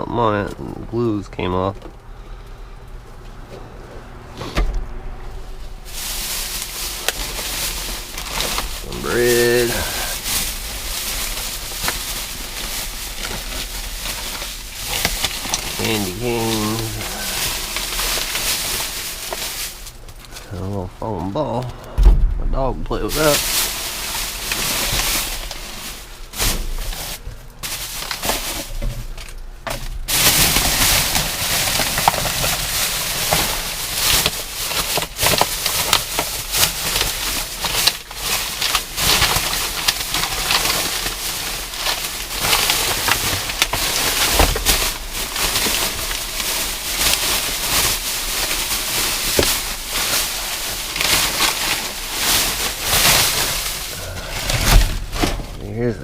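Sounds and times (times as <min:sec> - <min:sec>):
plastic bags rustling and crinkling: 0:05.3 - 0:56.0.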